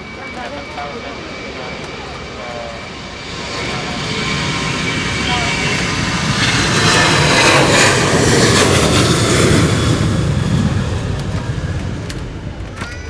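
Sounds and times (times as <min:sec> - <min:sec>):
jet airliner taxiing: 0:00.0 - 0:13.0.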